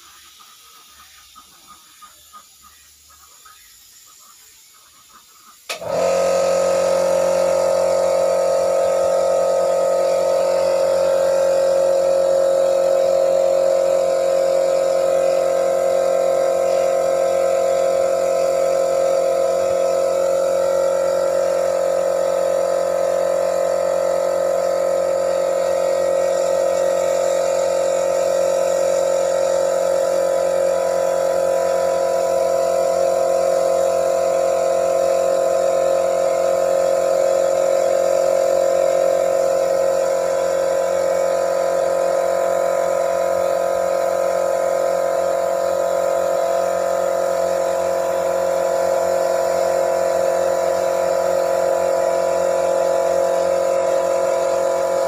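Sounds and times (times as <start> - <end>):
spray gun hissing: 0.0 - 55.0
air compressor motor hum: 5.5 - 55.0.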